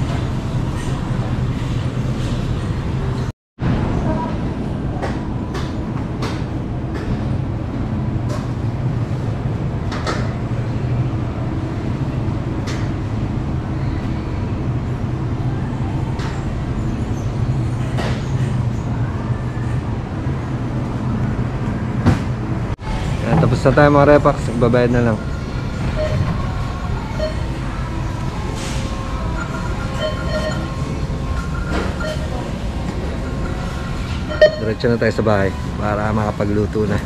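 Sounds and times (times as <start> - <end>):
refrigerated display cases humming: 0.0 - 37.0.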